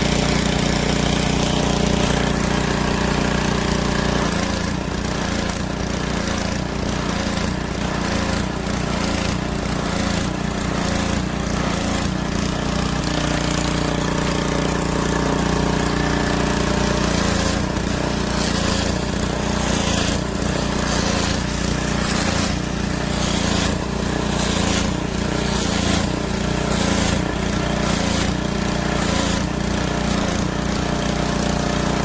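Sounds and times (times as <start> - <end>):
pressure washer engine running: 0.0 - 32.0.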